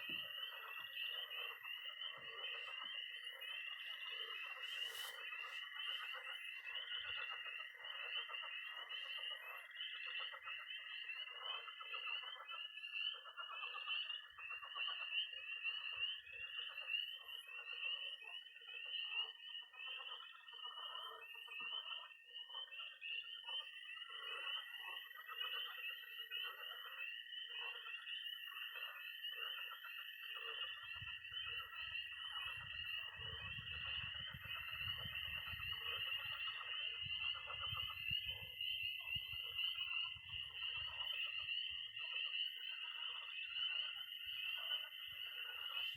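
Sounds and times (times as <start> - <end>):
frogs croaking: 0.0 - 45.9
high rapid frog peeps: 0.0 - 45.9
toads trilling: 0.0 - 45.9.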